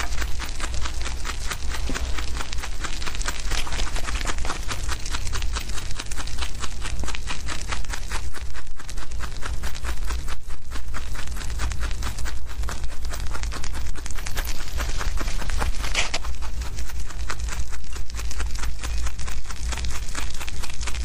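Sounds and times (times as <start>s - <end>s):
rabbits chewing grass: 0.0s - 21.0s
steady low hum: 0.0s - 21.0s.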